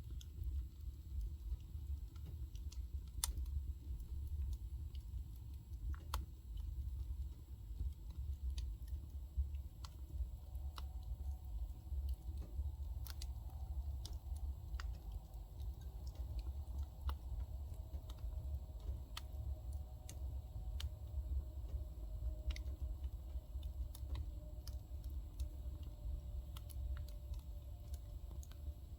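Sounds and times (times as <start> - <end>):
fire popping: 0.0 - 28.9
low rumble: 0.0 - 28.9
wood fire crackling: 0.0 - 28.9.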